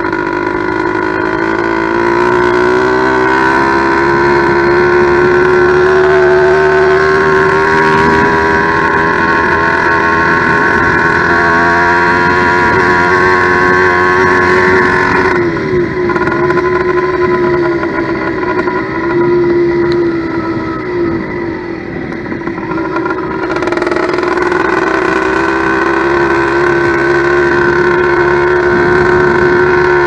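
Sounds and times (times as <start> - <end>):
two-stroke engine running: 0.0 - 30.0.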